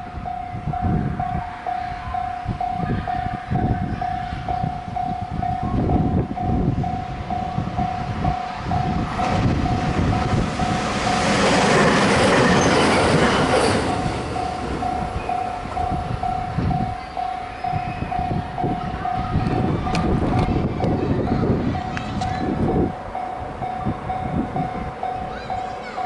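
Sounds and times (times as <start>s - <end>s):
level crossing warning bell ringing: 0.0s - 26.0s
train passing over crossing: 0.0s - 26.0s.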